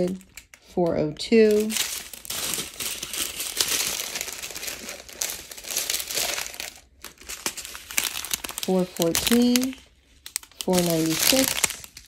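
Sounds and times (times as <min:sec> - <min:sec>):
plastic bags crinkling and rustling: 0:00.0 - 0:00.7, 0:01.4 - 0:12.0.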